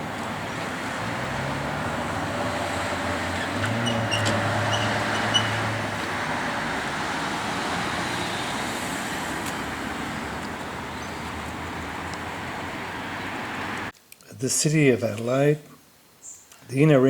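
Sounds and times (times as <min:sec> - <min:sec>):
passing vehicle engine hum: 0:00.0 - 0:13.9
traffic noise: 0:00.0 - 0:14.6.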